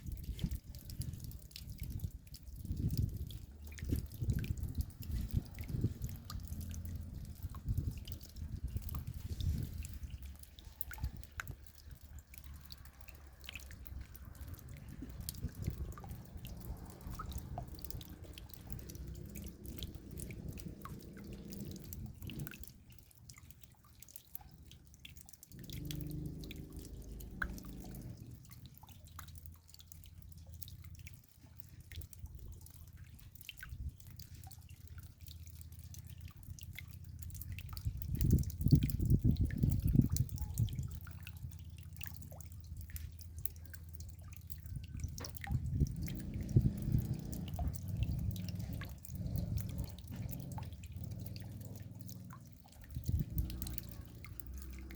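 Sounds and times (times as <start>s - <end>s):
raindrops dripping: 0.0s - 54.9s.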